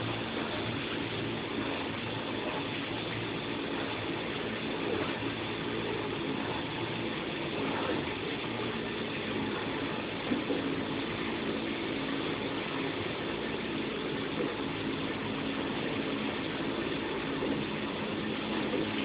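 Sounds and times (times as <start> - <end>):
machine humming: 0.0 - 19.0
steady low tones: 0.0 - 19.0.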